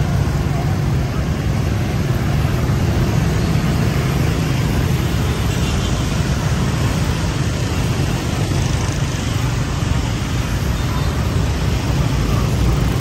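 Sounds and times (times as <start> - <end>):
scooter and motorbike traffic: 0.0 - 13.0.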